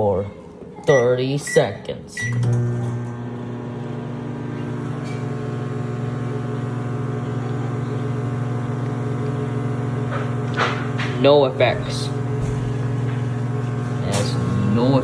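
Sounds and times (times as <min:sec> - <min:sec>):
microwave oven humming: 0:02.2 - 0:15.0.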